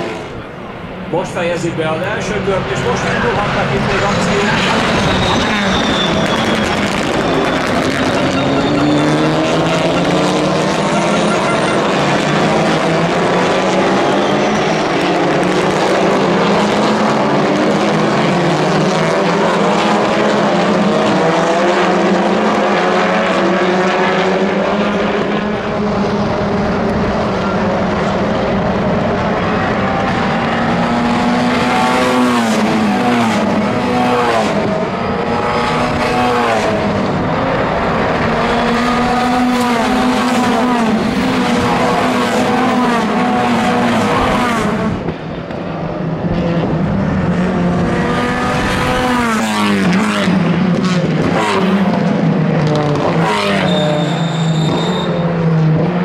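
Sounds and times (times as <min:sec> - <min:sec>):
racing cars passing at full throttle: 0:00.0 - 0:56.0.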